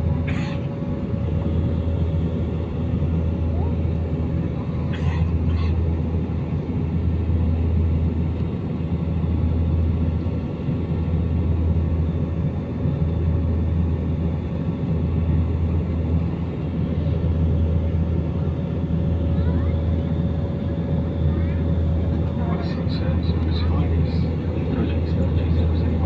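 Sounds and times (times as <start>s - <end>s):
airliner cabin drone: 0.0s - 26.0s.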